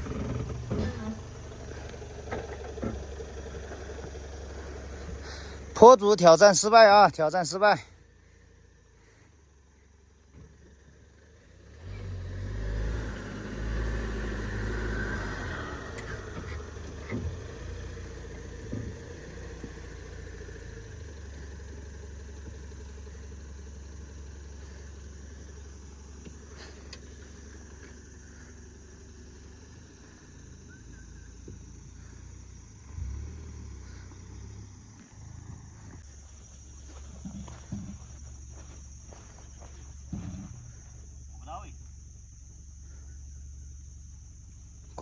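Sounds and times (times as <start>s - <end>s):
off-road vehicle engine revving: 0.0s - 45.0s.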